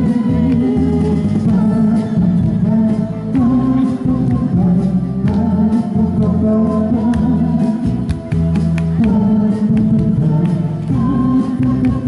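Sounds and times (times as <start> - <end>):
keyboard: 0.0 - 12.0
person singing a pop ballad: 0.0 - 12.0.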